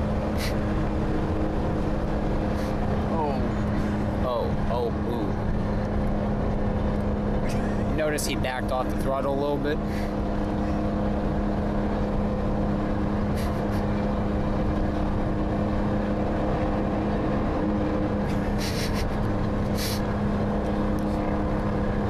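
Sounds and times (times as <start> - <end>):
road noise inside car: 0.0 - 22.0
truck diesel engine droning: 0.0 - 22.0.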